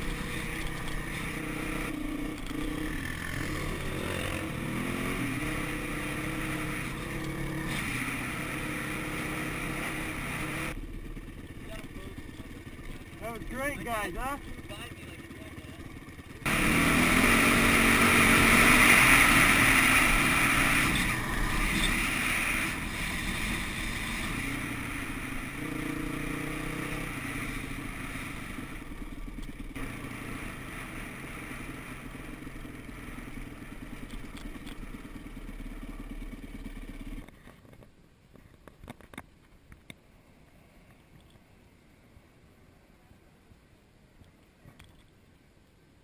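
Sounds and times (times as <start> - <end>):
dirt bike engine running: 0.0 - 37.4.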